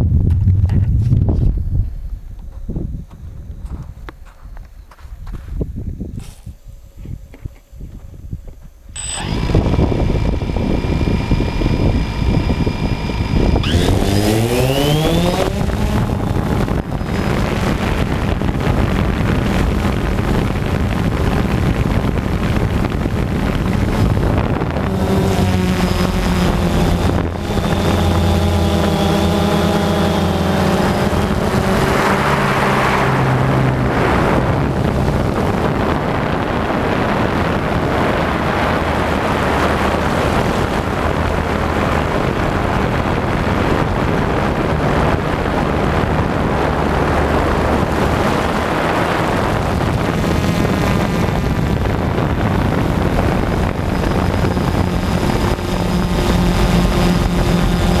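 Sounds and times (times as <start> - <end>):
drone motors and propellers whining: 8.8 - 58.0.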